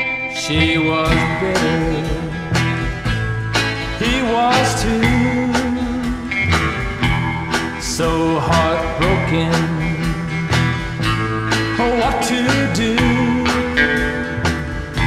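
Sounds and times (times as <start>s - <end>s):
rock and roll record playing: 0.0s - 15.0s.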